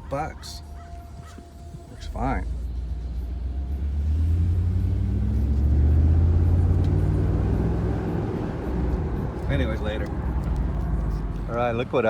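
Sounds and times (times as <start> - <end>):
car engine exhaust rumble: 2.0 - 11.8.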